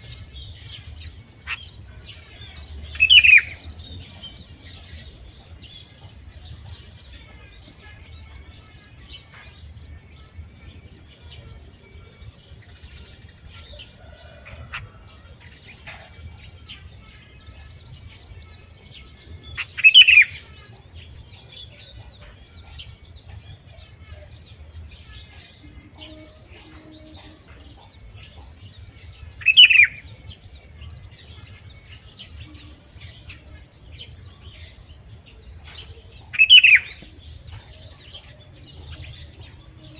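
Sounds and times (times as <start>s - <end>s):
high insect drone: 0.0s - 39.9s
small birds chirping: 0.0s - 39.9s.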